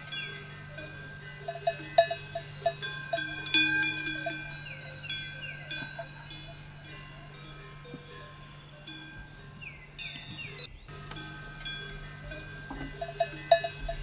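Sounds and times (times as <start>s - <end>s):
metal bells clanking: 0.0s - 14.0s.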